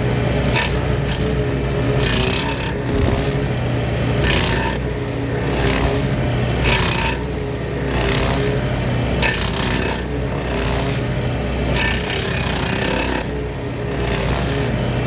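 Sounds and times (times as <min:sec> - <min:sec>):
gas engine running under load: 0:00.0 - 0:15.0
power tool cutting wood: 0:00.0 - 0:15.0.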